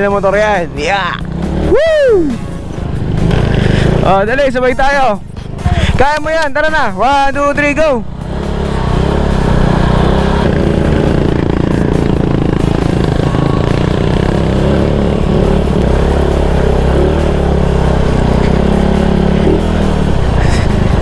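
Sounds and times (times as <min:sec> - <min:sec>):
motorcycle engine accelerating: 0:00.0 - 0:04.5, 0:07.6 - 0:21.0.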